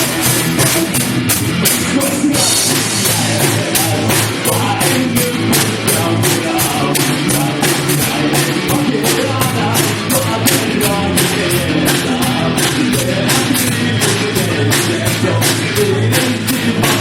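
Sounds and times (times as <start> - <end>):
drums keeping a steady beat: 0.0 - 17.0
rock band playing live: 0.0 - 17.0.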